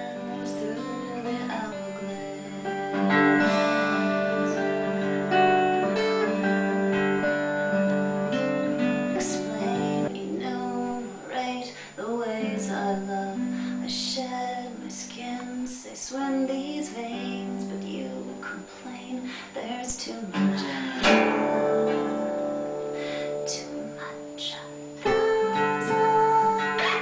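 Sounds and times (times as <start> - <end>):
strummed acoustic guitar chords: 0.0 - 15.6, 16.5 - 27.0
slide guitar line: 0.0 - 27.0.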